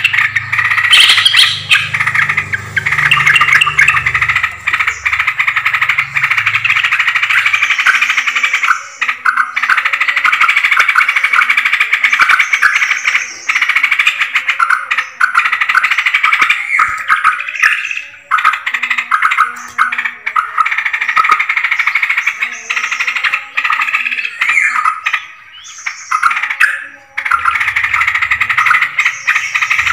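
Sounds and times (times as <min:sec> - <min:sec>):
birds chattering: 0:00.0 - 0:29.9.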